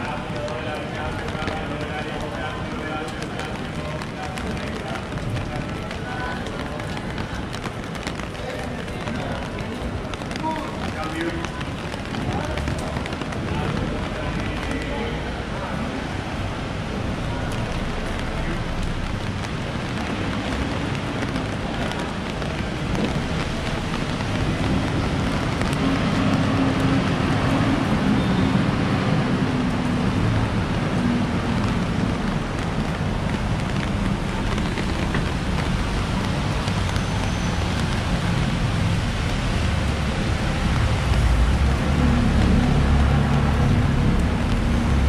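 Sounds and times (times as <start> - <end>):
rain on paving and umbrella: 0.0 - 45.0
street traffic rumble: 0.0 - 45.0.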